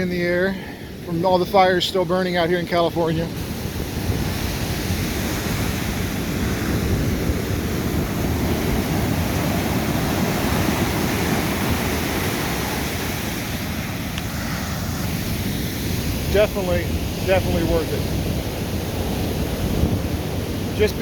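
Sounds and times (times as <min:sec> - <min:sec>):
ocean surf breaking: 0:00.0 - 0:21.0
wind rumbling on microphone: 0:00.0 - 0:21.0.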